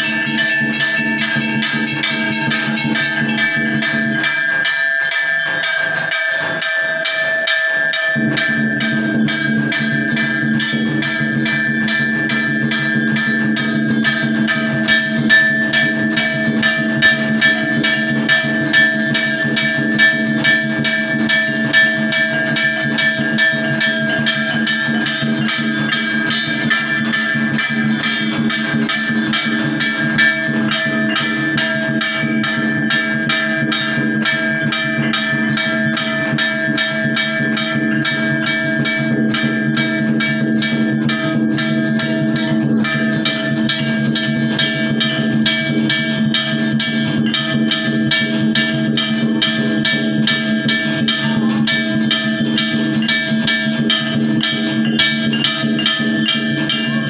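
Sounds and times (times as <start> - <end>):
bells and percussion: 0.0 - 57.0.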